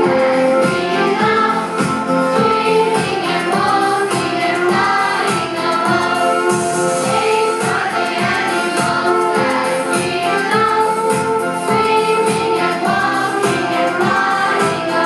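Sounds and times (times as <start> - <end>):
voices singing together: 0.0 - 15.0.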